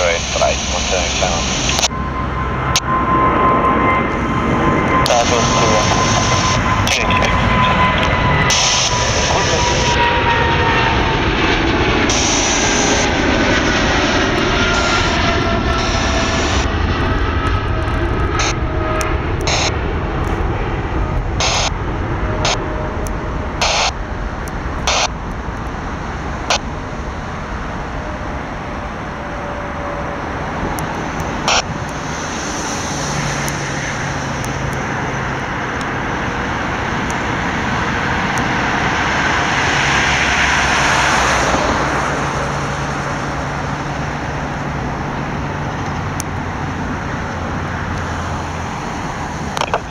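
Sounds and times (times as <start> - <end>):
jet engines roaring at takeoff: 0.0 - 49.9.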